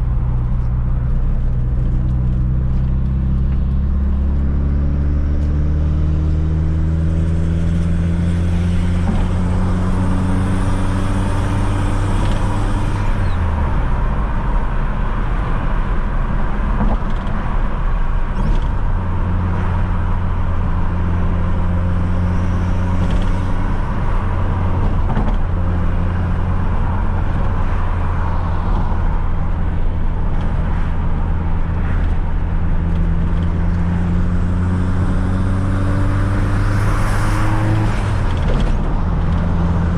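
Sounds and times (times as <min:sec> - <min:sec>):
car engine accelerating: 0:00.0 - 0:39.9
road and tyre noise: 0:00.0 - 0:39.9.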